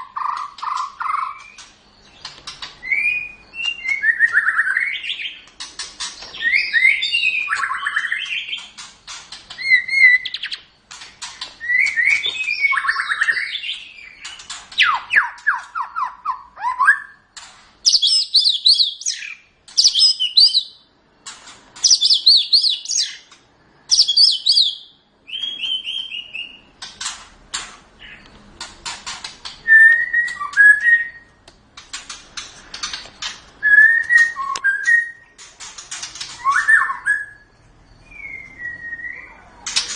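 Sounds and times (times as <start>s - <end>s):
songbird singing: 0.0s - 27.2s, 27.9s - 28.5s, 29.2s - 39.9s.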